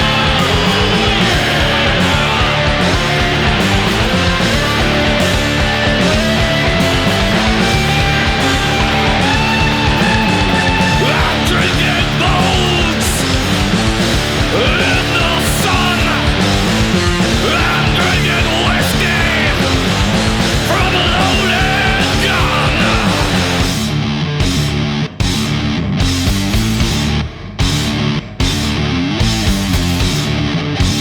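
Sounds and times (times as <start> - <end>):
heavy rock band playing: 0.0 - 31.0.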